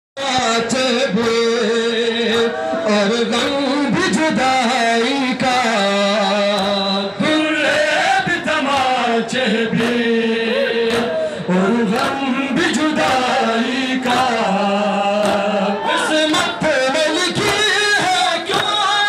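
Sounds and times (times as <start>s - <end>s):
man chanting a mourning lament: 0.2s - 19.0s.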